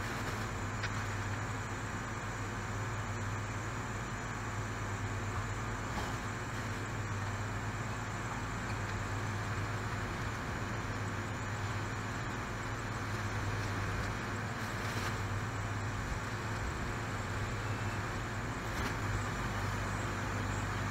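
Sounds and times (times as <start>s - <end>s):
appliance low hum: 0.0s - 20.9s.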